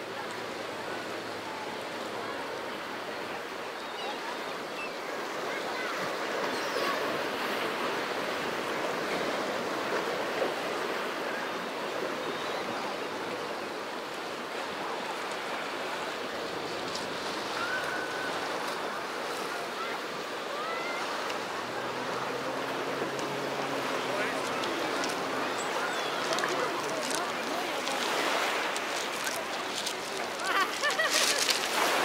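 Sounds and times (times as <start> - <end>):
waves washing onto pebbles: 0.0 - 32.0.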